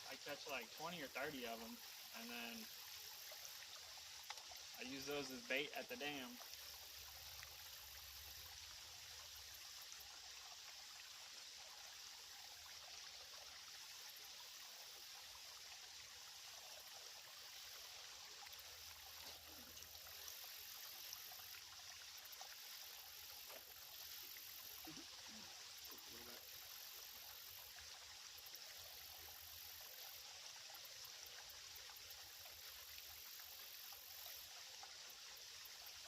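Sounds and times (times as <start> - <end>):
water trickling in a creek: 0.0 - 36.0.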